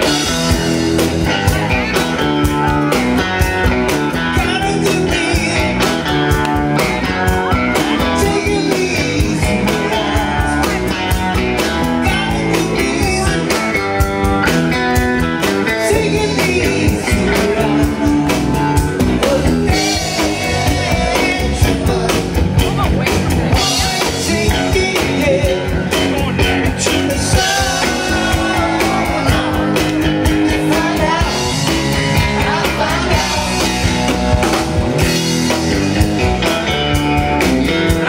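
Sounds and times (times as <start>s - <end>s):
bass: 0.0s - 38.0s
guitar: 0.0s - 38.0s
steady drum beat: 0.0s - 38.0s.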